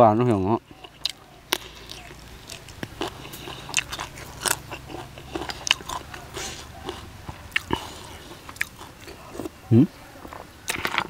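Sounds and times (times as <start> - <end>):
crunchy chewing: 0.6 - 11.0.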